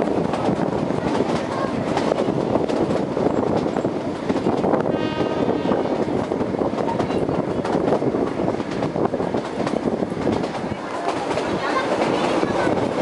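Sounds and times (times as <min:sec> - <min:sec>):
train wheels rattling rumble: 0:00.0 - 0:13.0.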